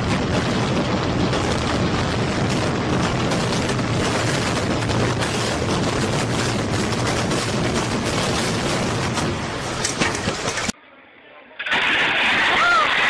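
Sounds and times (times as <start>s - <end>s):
building collapsing rumble: 0.0s - 10.8s.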